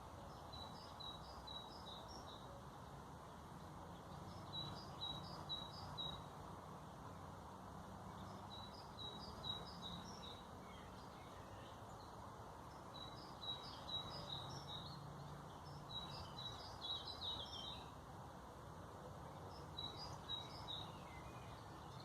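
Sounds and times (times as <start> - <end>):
small birds chirping: 0.0 - 3.0, 3.8 - 7.3, 8.0 - 18.4, 19.2 - 22.0.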